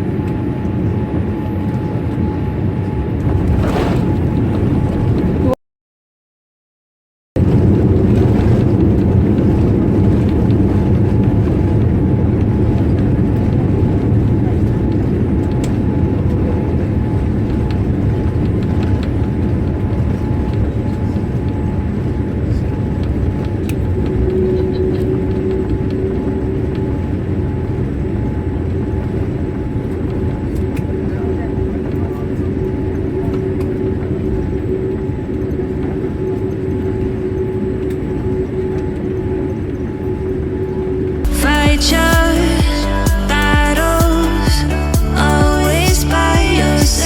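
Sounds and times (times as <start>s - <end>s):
airplane cabin rumble: 0.0s - 5.6s, 7.4s - 47.0s.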